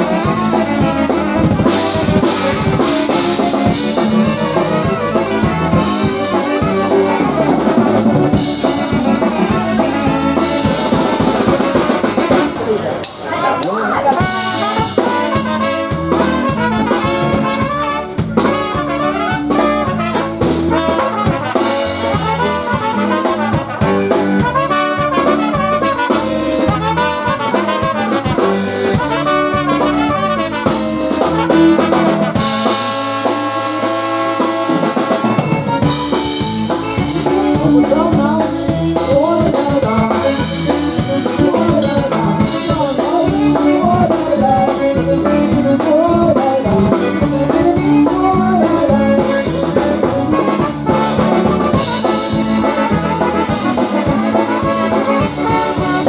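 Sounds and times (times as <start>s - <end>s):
trumpets playing tune: 0.0s - 12.9s, 13.9s - 56.0s
polka band playing: 0.0s - 56.0s.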